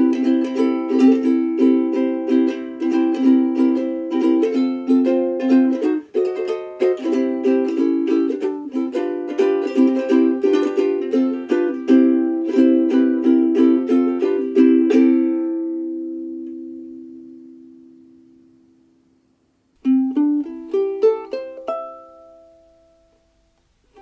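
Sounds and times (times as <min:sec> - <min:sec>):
ukulele strummed chords: 0:00.0 - 0:24.0.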